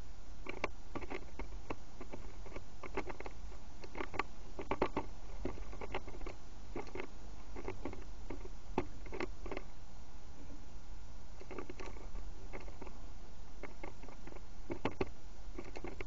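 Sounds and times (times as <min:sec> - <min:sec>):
bird pecking at seed: 0:00.4 - 0:09.8, 0:11.4 - 0:16.0.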